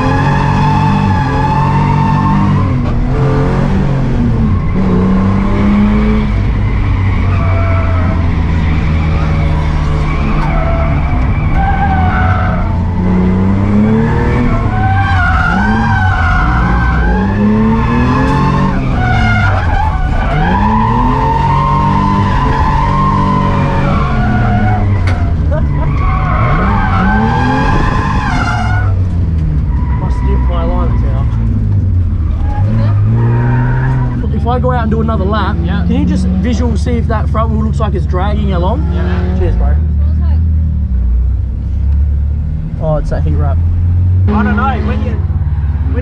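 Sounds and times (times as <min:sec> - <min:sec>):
car engine revving: 0:00.0 - 0:46.0
tyres skidding: 0:00.0 - 0:46.0.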